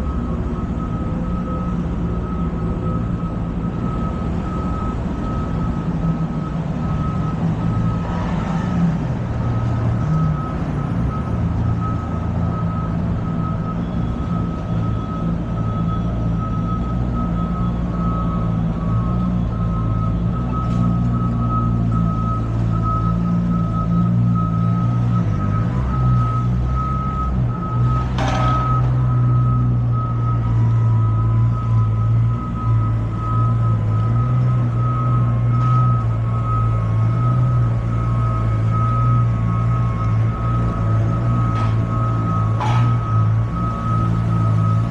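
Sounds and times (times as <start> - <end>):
idling engines rumble: 0.0 - 44.9
street traffic: 0.0 - 44.9
truck reversing alarm beeping: 0.0 - 44.9.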